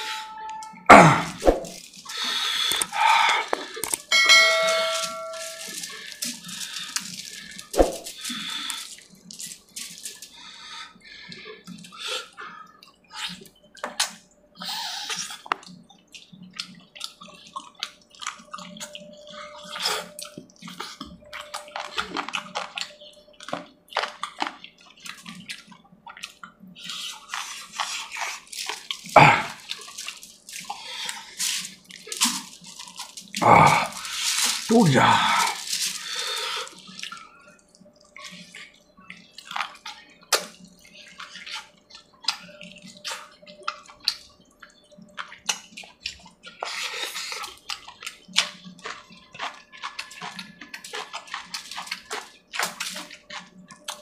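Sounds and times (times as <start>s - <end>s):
wet chewing and lip smacks: 1.7s - 4.1s, 11.2s - 34.7s, 35.5s - 54.0s.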